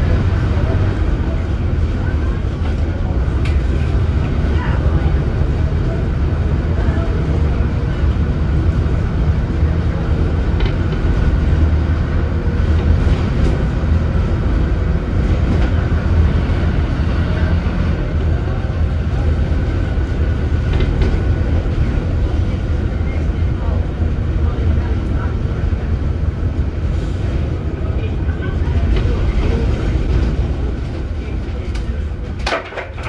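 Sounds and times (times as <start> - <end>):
bus diesel engine rumbling: 0.0 - 33.0
road noise: 0.0 - 33.0.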